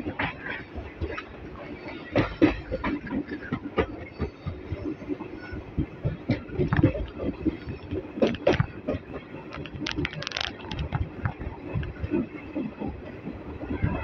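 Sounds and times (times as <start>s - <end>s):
train coach rumbling on track: 0.0s - 14.0s
wheels knocking and clattering: 0.0s - 14.0s.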